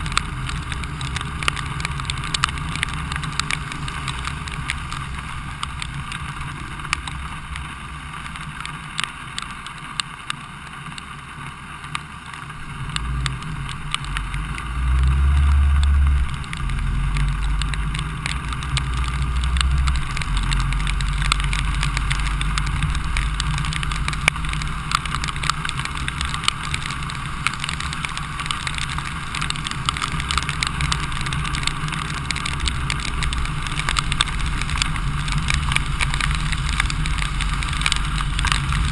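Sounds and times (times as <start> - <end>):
low rumble: 0.0 - 8.7, 12.5 - 38.9
raindrops ticking: 0.0 - 38.9
tyres hissing on wet road: 0.0 - 38.9.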